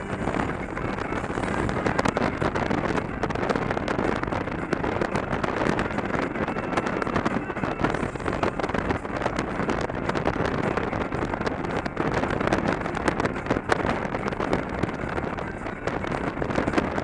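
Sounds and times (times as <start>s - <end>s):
motorcycle engine cruising: 0.0s - 17.0s
wind buffeting microphone: 0.0s - 17.0s.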